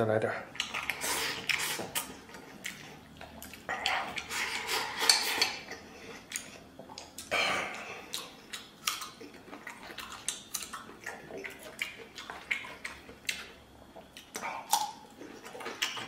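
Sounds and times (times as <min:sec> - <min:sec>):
chewing: 0:00.5 - 0:16.0.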